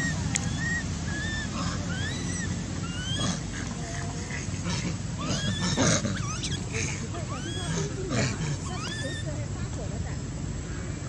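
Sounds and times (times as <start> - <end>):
baby monkey crying: 0.0 - 9.4
low background rumble: 0.0 - 11.0.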